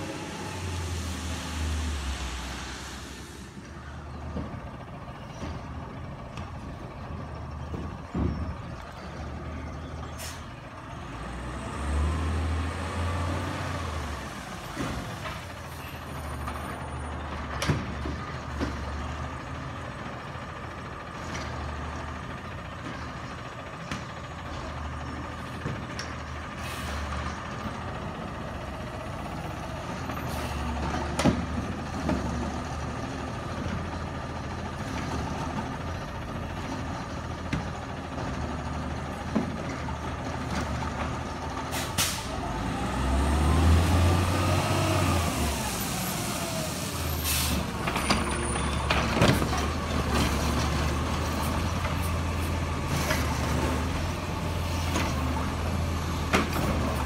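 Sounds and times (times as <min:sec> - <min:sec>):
garbage truck engine: 0:00.0 - 0:57.0.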